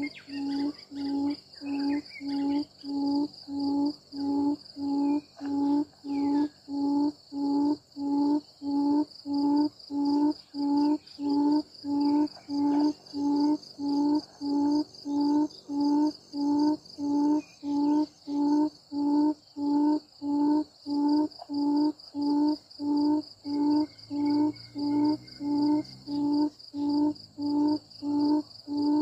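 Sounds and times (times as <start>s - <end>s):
high insect drone: 0.0s - 29.0s
quail hooting call: 0.0s - 29.0s.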